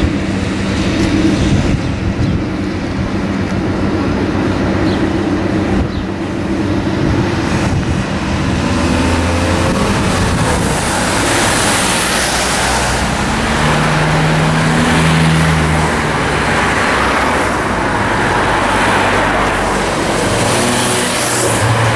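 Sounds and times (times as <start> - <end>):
car engines running: 0.0 - 21.9
cars passing: 0.0 - 21.9.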